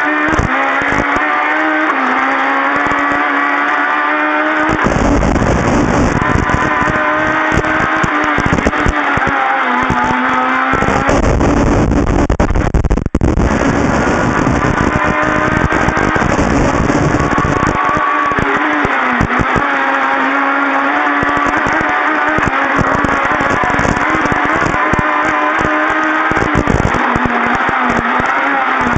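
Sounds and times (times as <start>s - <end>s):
car engine at high revs: 0.0s - 28.9s.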